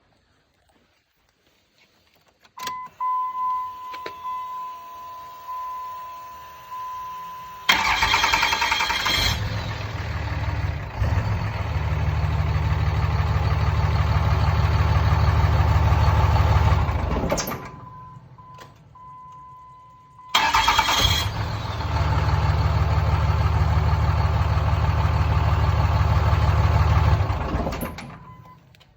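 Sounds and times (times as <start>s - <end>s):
diesel engine cranking and starting: 2.6s - 28.9s
diesel engine running: 4.6s - 28.7s.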